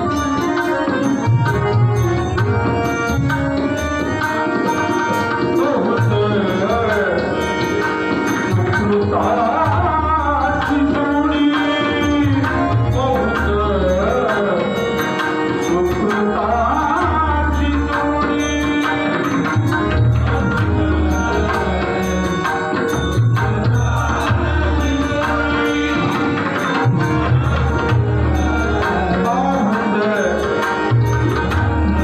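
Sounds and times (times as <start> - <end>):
hand drums playing rhythm: 0.0 - 32.0
harmonium: 0.0 - 32.0
man singing: 5.4 - 32.0.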